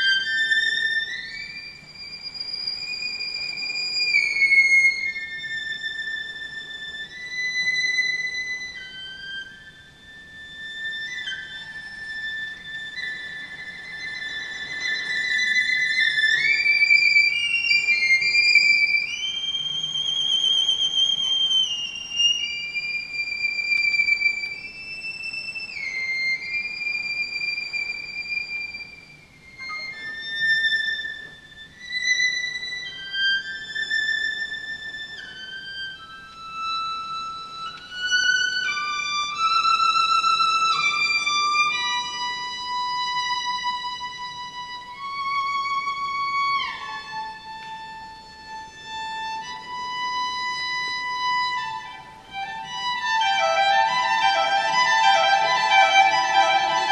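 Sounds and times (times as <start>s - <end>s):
solo violin melody: 0.0s - 56.9s.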